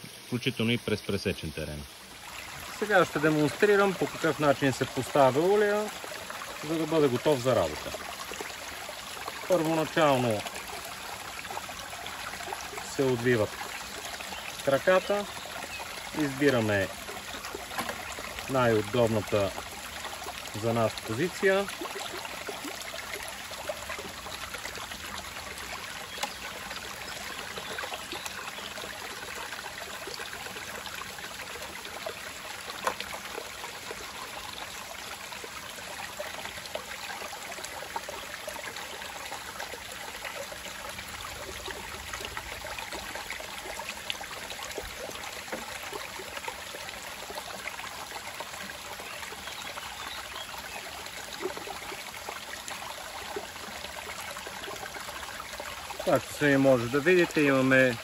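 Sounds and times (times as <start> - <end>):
river water running over rocks: 0.0 - 58.0.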